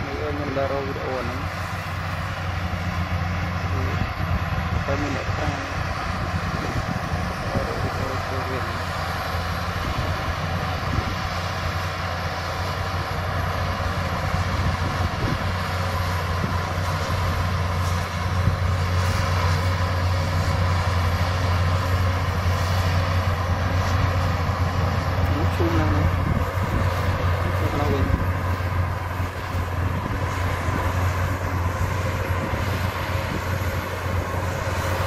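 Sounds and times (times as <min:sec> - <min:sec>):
bulldozer diesel engine droning: 0:00.0 - 0:35.0.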